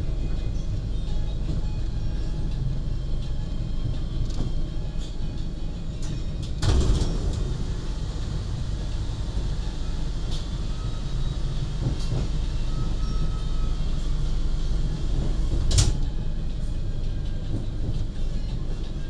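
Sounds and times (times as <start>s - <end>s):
train rumble from inside: 0.0s - 19.0s.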